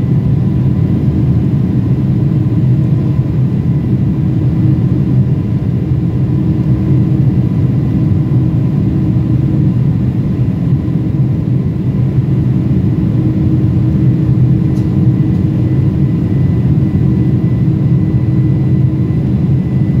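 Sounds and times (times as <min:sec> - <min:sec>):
jet engines rumbling in cabin: 0:00.0 - 0:20.0.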